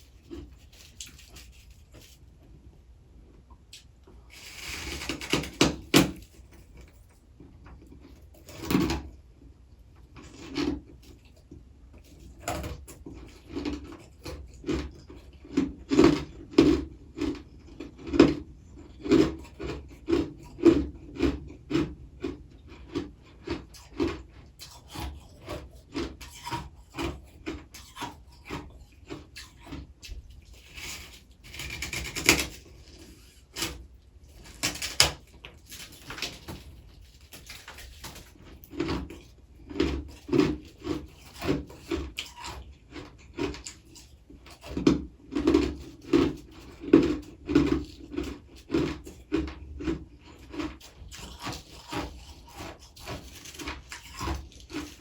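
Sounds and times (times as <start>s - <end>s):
frost crunching while chewed: 0.0s - 2.6s, 3.4s - 9.3s, 10.0s - 55.0s.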